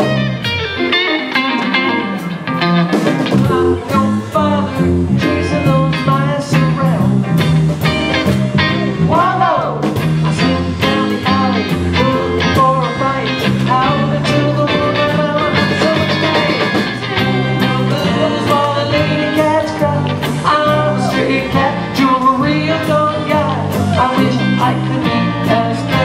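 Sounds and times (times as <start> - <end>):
drum kit: 0.0 - 26.0
electric bass: 0.0 - 26.0
electric guitars: 0.0 - 26.0.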